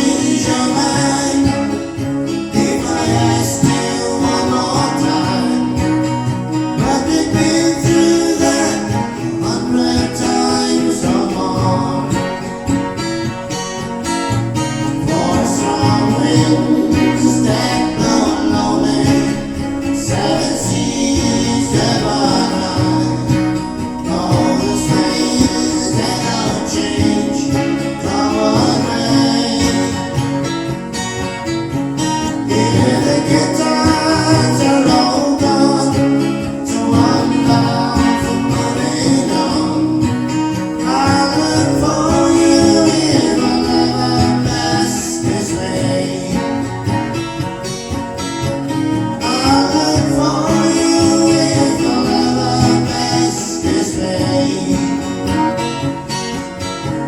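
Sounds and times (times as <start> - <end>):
acoustic guitar strumming: 0.0 - 57.0
person singing: 0.0 - 57.0.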